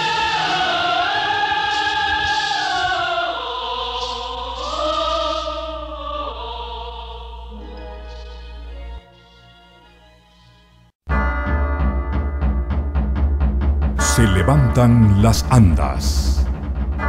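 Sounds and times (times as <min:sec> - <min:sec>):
solemn choral music: 0:00.0 - 0:10.7, 0:14.0 - 0:17.0.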